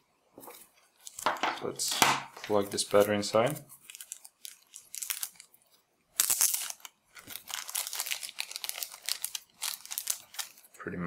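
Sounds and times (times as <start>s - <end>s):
plastic wrapper crinkling: 0.5s - 10.8s.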